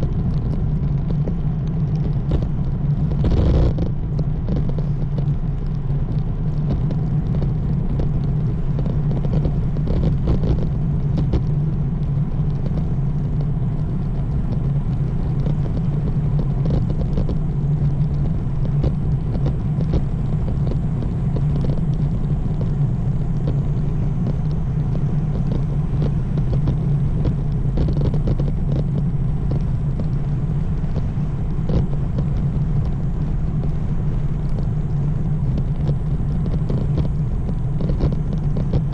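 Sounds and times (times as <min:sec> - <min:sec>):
bike tyres rolling: 0:00.0 - 0:38.9
small clicks and rattles: 0:00.0 - 0:38.9
wind on microphone: 0:00.0 - 0:38.9.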